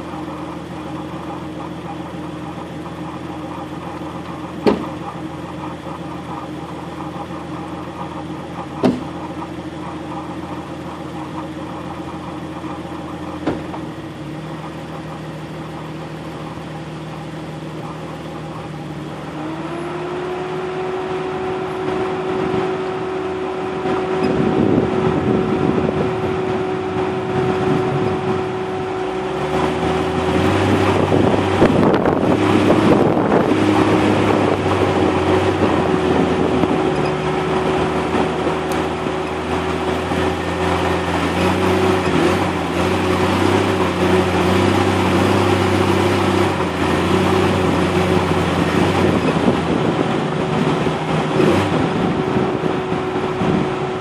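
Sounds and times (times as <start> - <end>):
vehicle driving on dirt trail: 0.0 - 54.0
vehicle engine idling: 0.0 - 54.0.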